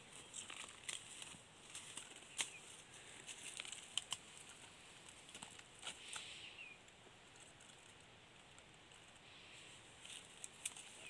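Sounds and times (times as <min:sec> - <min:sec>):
twigs clicking: 0:00.0 - 0:09.2, 0:10.0 - 0:11.0
rustling of leaf litter: 0:00.0 - 0:11.0.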